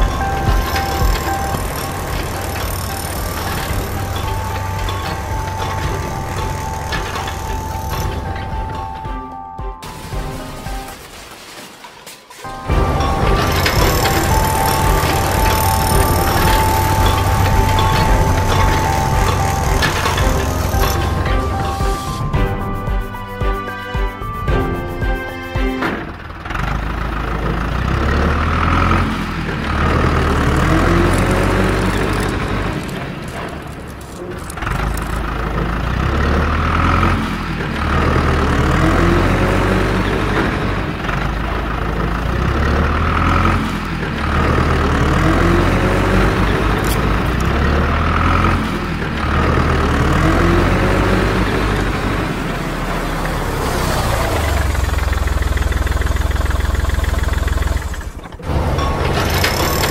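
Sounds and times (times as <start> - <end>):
tractor engine running: 0.0 - 11.3, 12.4 - 59.9.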